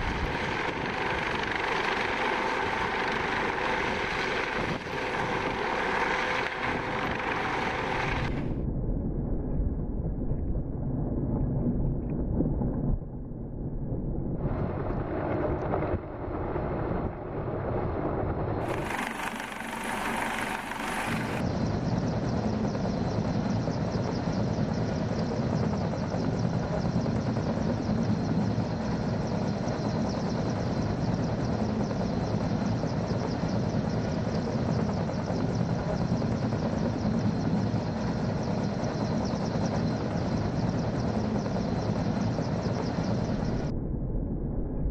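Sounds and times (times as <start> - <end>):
helicopter hovering overhead: 0.0 - 8.7, 13.4 - 43.8.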